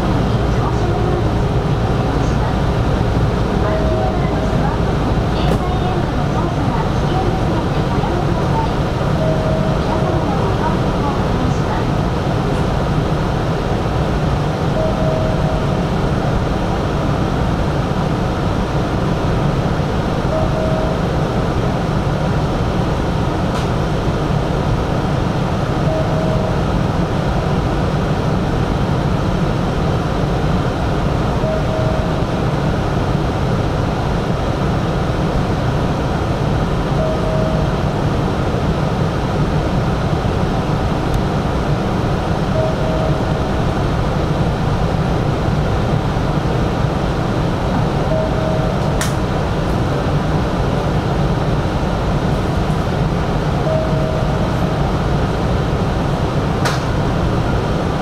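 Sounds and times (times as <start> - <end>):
electric train noise: 0.0 - 58.0.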